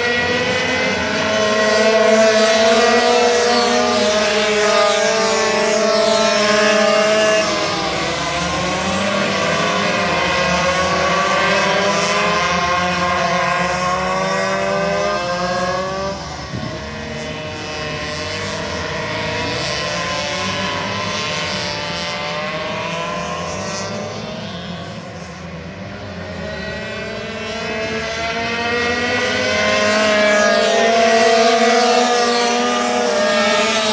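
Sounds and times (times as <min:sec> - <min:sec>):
racing minibike engines: 0:00.0 - 0:33.9.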